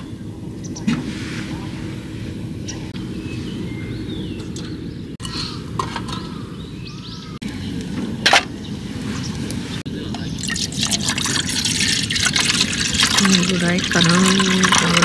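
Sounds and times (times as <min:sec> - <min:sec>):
birds chirping: 0:00.0 - 0:15.0
low outdoor background noise: 0:00.0 - 0:15.0.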